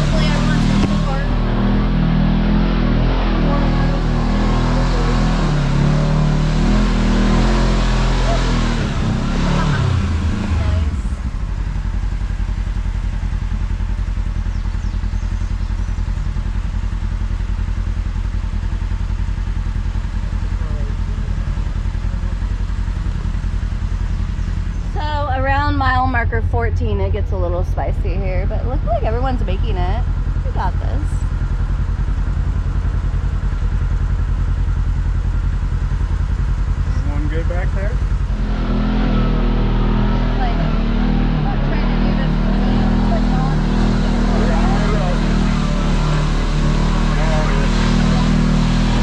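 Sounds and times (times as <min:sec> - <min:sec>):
vehicle clatter: 0:00.0 - 0:49.0
vehicle engine running: 0:00.0 - 0:49.0.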